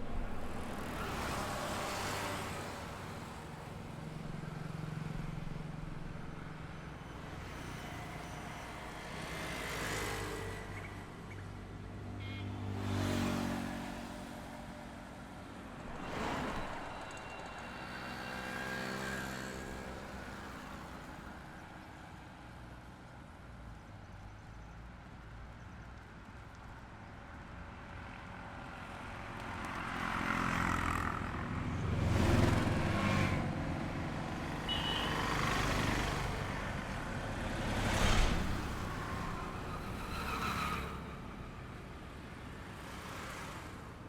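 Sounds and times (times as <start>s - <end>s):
vehicles passing on highway: 0.0s - 44.0s.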